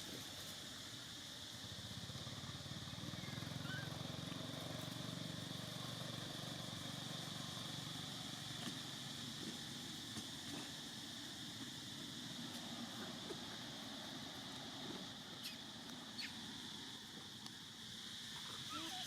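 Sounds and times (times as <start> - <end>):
steady high hiss: 0.0 - 19.0
vehicle engine rumble: 0.0 - 19.0.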